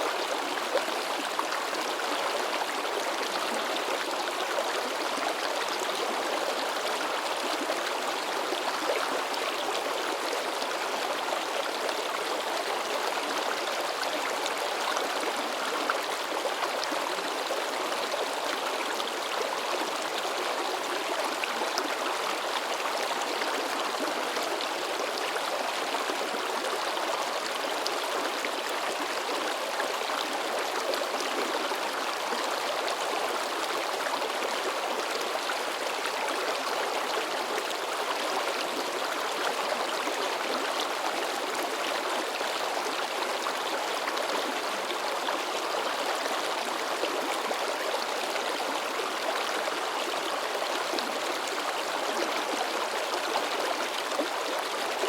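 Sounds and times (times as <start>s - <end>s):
river babbling over rocks: 0.0s - 55.0s.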